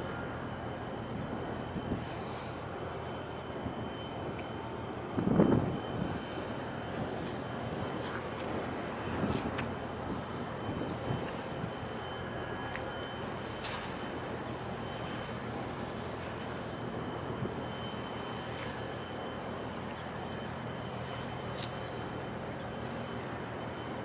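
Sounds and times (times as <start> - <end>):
faint high steady tone: 0.0 - 24.0
outdoor rumble and hiss: 0.0 - 24.0.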